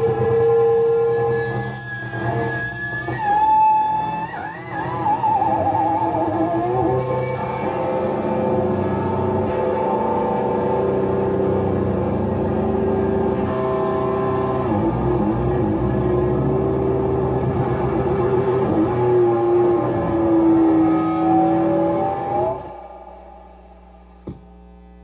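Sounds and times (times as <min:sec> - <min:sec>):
electric guitar feedback drone: 0:00.0 - 0:25.0
low amplifier hum: 0:00.0 - 0:25.0.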